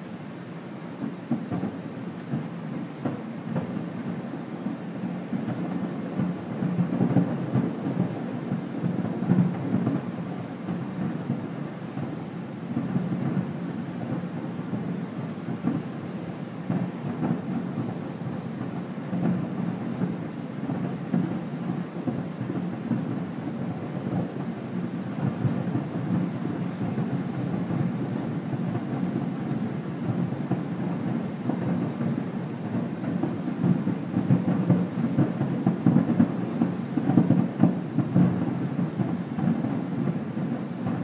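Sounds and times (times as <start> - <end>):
distant fireworks booming: 0.1 - 41.0.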